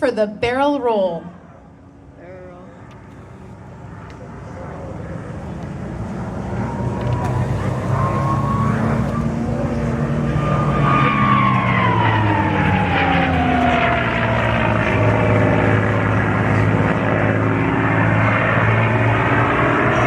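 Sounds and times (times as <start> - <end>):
propeller plane fly-by: 0.0 - 20.0.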